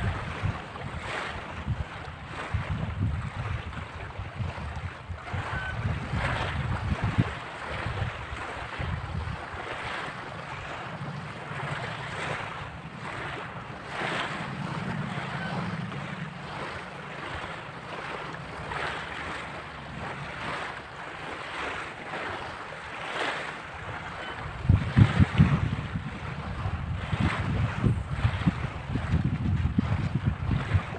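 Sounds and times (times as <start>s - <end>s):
small waves lapping on pebbles: 0.0s - 25.4s
wind rumbling on microphone: 0.0s - 30.9s.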